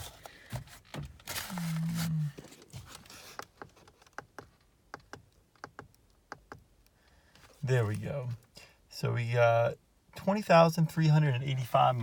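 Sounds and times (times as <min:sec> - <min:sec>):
low steady hum with noise: 0:00.0 - 0:12.0.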